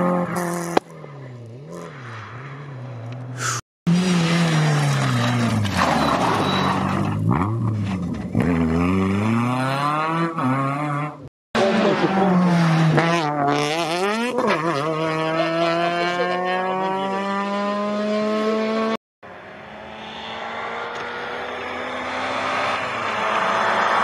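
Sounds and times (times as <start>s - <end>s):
rally car engine approaching: 0.0s - 24.0s
rally car engine accelerating: 3.9s - 24.0s.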